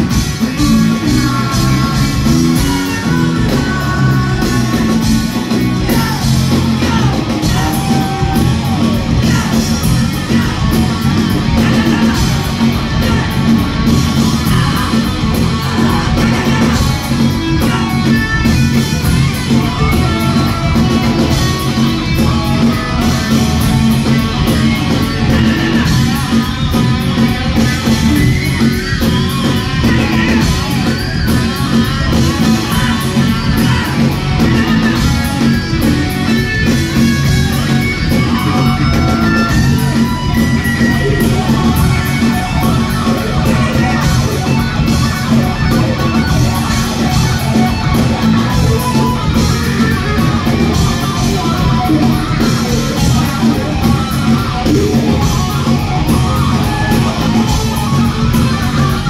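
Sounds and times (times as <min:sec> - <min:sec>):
bass guitar: 0:00.0 - 0:59.0
electric guitars: 0:00.0 - 0:59.0.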